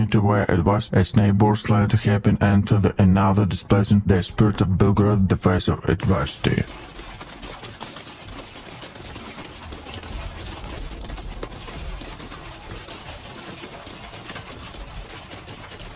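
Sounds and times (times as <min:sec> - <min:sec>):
rain patter: 0:02.9 - 0:15.9.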